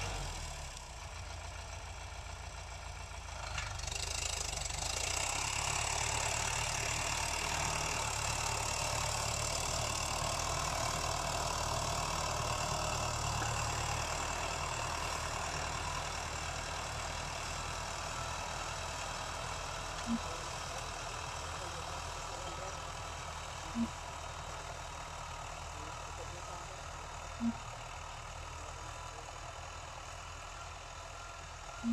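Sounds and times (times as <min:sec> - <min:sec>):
tractor diesel engine under load: 0:00.0 - 0:31.9.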